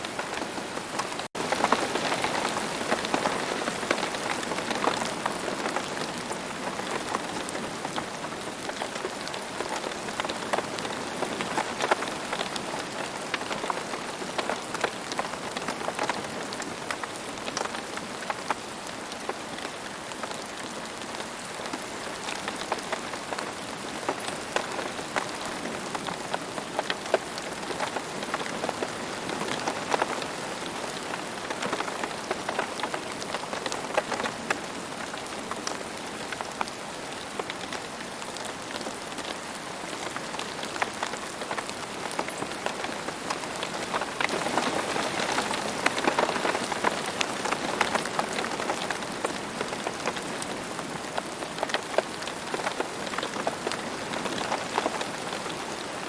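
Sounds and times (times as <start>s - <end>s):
rain falling: 0.0s - 56.0s
raindrop taps and splats: 0.0s - 56.0s.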